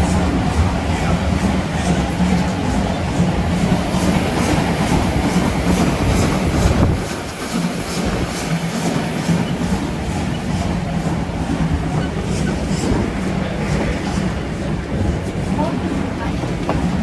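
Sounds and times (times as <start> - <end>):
train rumbling on track: 0.0 - 17.0
wheels clickety-clack over rail joints: 0.0 - 17.0.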